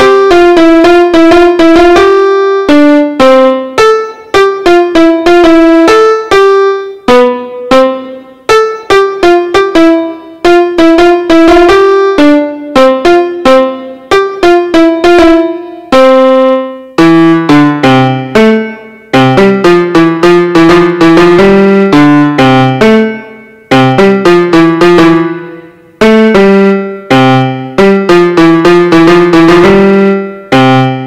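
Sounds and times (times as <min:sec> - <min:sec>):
electronic keyboard piano melody: 0:00.0 - 0:31.0.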